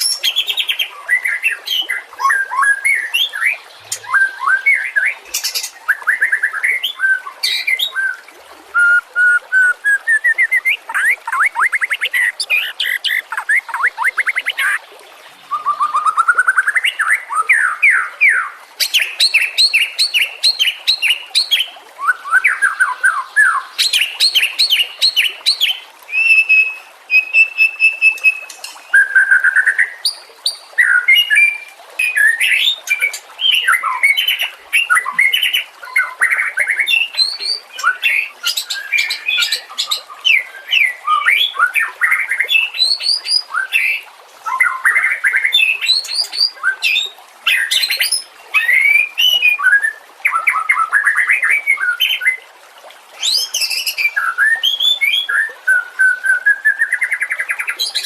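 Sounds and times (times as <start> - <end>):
songbird singing varied song: 0.0 - 14.8, 15.5 - 51.8.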